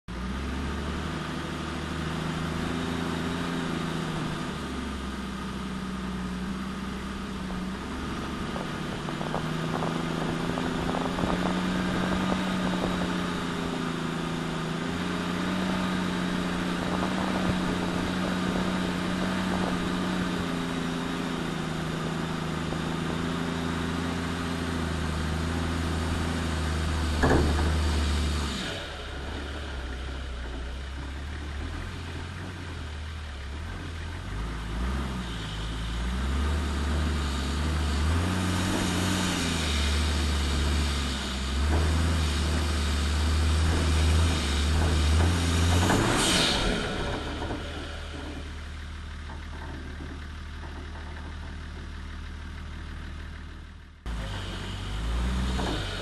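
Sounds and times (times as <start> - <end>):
diesel engine running at low revs: 0.0 - 56.0.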